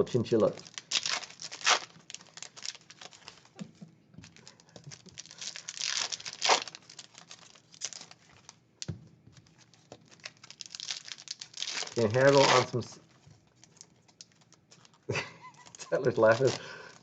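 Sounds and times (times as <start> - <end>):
card pack wrappers tearing: 0.4 - 3.6, 4.3 - 8.6, 9.5 - 12.9, 13.6 - 17.0.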